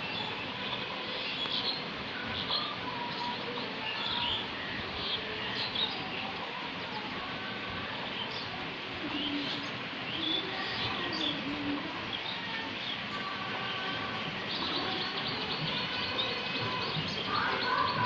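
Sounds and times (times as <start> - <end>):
small birds chirping: 0.0 - 18.0
steady background hiss: 0.0 - 18.0.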